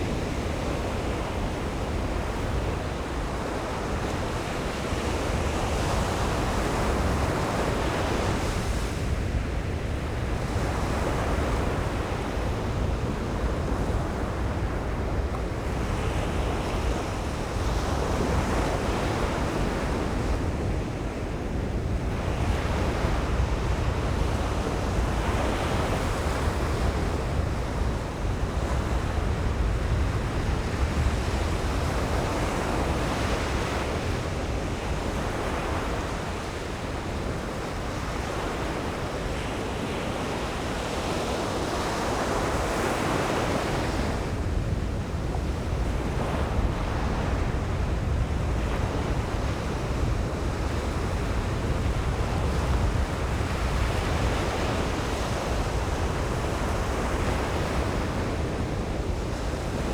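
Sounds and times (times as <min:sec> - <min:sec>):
surf breaking on a beach: 0:00.0 - 0:59.9
wind rumbling on microphone: 0:00.0 - 0:59.9.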